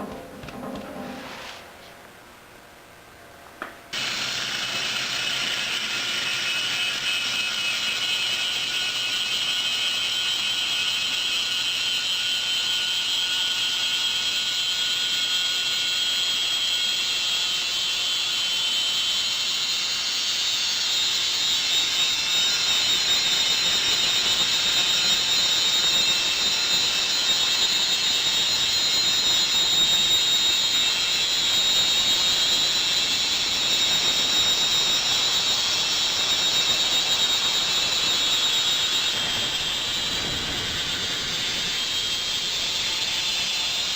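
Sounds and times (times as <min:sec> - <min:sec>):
band saw cutting wood: 0:04.0 - 0:43.9.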